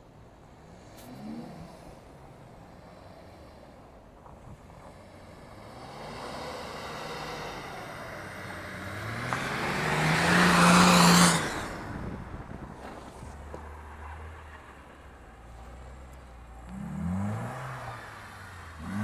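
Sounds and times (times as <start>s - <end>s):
tyres spinning on snow: 0.0s - 19.0s
car engine revving: 0.7s - 19.0s.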